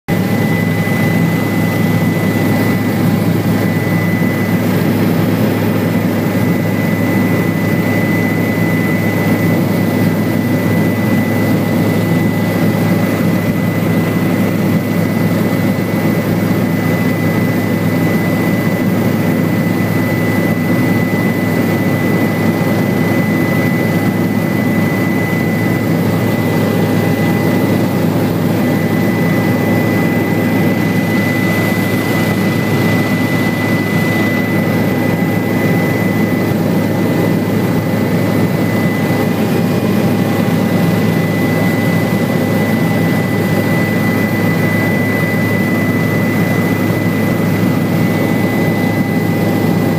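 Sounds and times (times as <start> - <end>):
helicopter engine and rotor drone: 0.1 - 49.9
high whine: 0.1 - 49.9.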